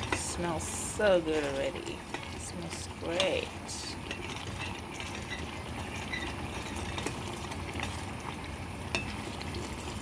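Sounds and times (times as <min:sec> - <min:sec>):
metal spoon scraping a pot: 0:00.0 - 0:08.2
sauce sizzling and bubbling in pot: 0:00.0 - 0:10.0.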